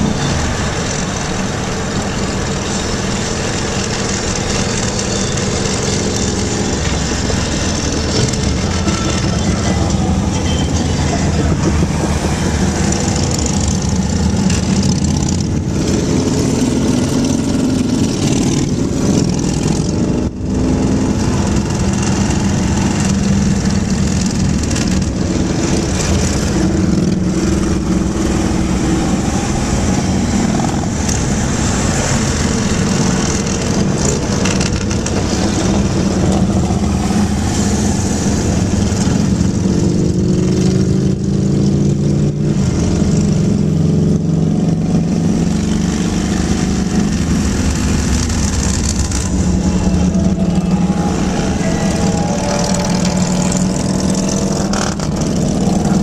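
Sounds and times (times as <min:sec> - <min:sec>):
motorcycle engines cruising: 0:00.0 - 0:56.0
road and wind noise: 0:00.0 - 0:56.0.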